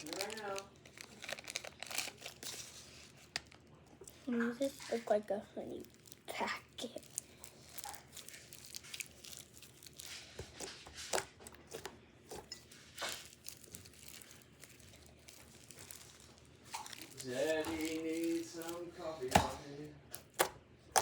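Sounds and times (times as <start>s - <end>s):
plastic crinkling: 0.0s - 19.7s.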